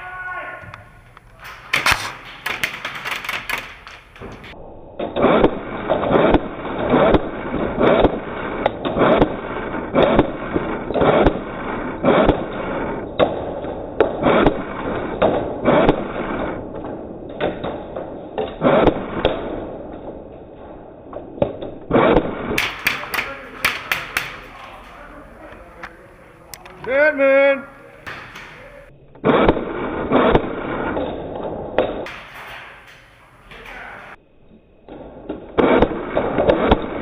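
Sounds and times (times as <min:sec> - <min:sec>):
airsoft rifle shots: 0:01.5 - 0:25.9, 0:27.0 - 0:33.0, 0:35.4 - 0:37.0.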